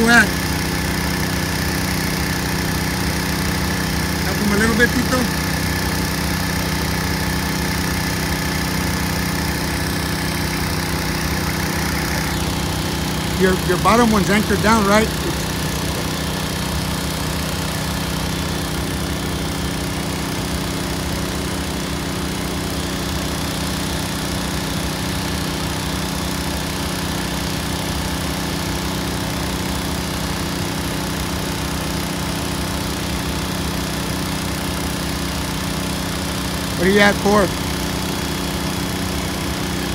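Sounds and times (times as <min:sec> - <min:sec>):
engine droning: 0:00.0 - 0:26.8, 0:32.3 - 0:39.9.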